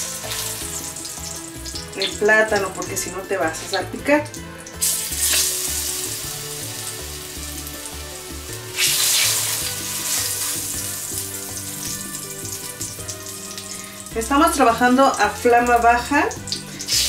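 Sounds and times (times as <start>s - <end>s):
plantain slices sizzling in oil: 0.0s - 17.0s.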